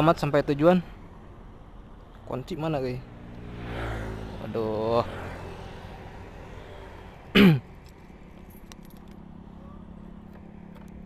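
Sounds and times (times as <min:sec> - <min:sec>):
faint road noise: 0:00.0 - 0:11.0.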